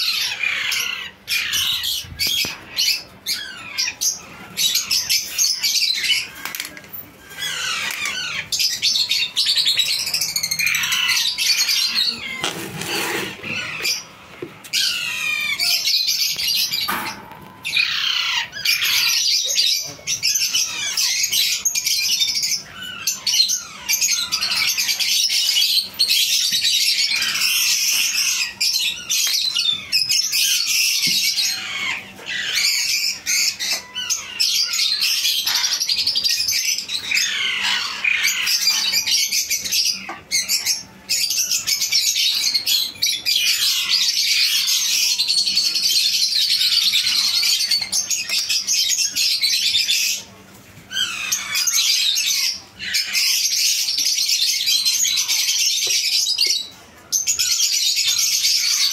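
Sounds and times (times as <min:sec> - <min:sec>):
parakeet chicks calling: 0:00.0 - 0:58.9.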